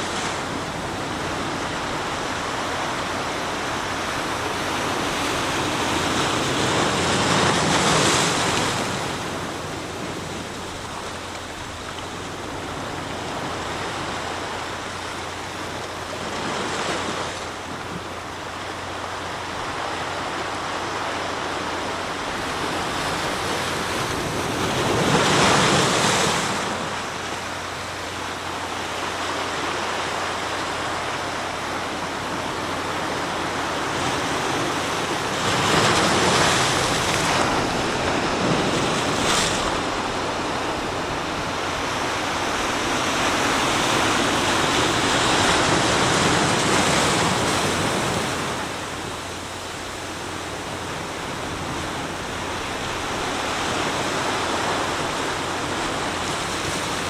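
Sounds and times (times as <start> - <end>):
sea waves breaking on shore: 0.0 - 57.0
surf washing: 0.0 - 57.0.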